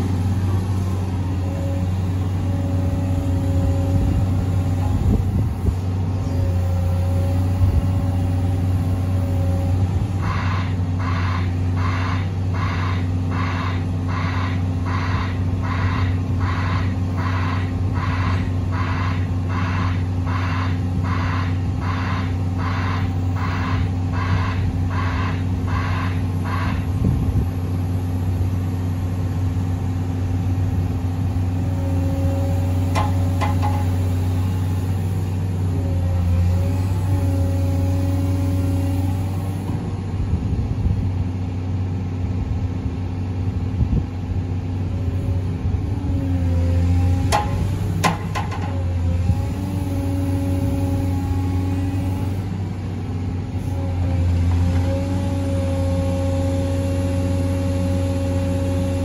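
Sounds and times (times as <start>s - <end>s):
hydraulic whine: 0.0s - 40.0s, 45.0s - 52.7s
diesel engine running: 0.0s - 59.0s.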